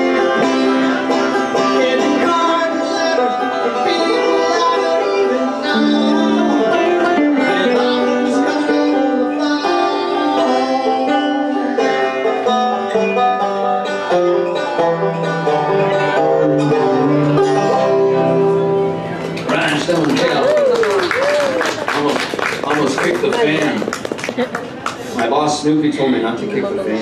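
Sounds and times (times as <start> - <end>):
banjo picking fast runs: 0.0 - 20.4, 21.8 - 24.8
electric guitar: 0.0 - 25.2.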